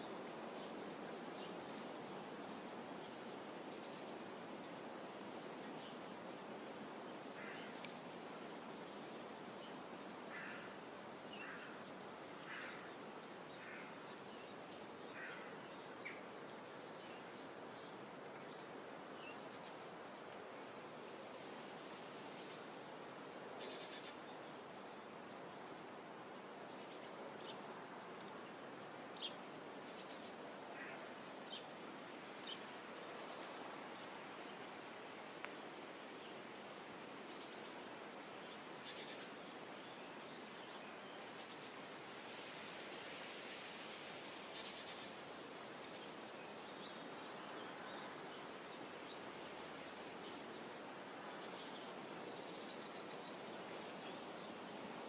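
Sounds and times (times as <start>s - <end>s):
outdoor ambience hiss: 0.0s - 55.0s.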